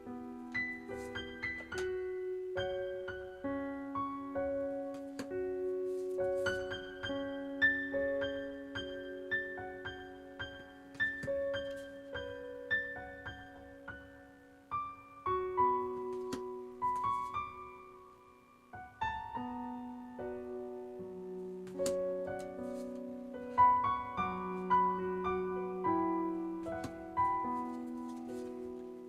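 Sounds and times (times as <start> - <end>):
gentle solo piano music: 0.0 - 29.0.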